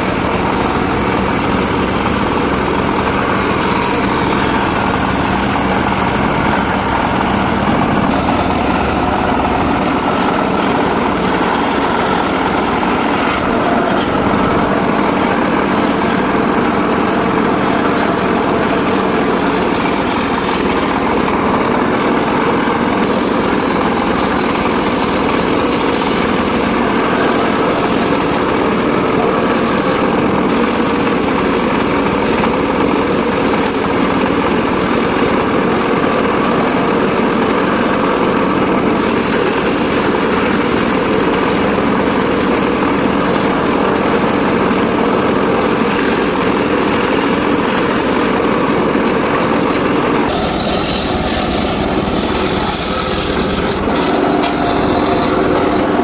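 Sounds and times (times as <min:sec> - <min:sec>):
circular saw cutting wood: 0:00.0 - 0:56.0.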